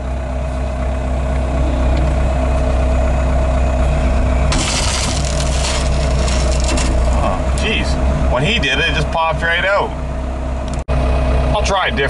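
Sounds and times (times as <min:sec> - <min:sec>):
heavy machine engine humming: 0:00.0 - 0:12.0.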